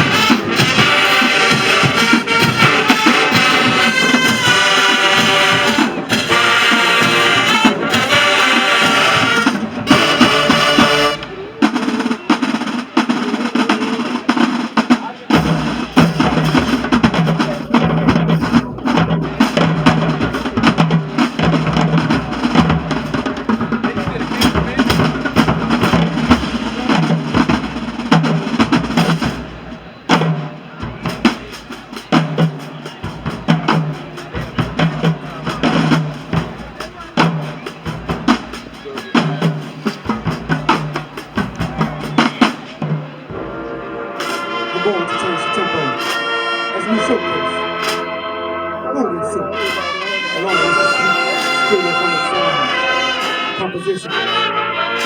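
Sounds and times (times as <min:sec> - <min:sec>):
snare drum rolls: 0:00.0 - 0:48.4, 0:49.6 - 0:55.0
marching band brass: 0:00.0 - 0:55.0.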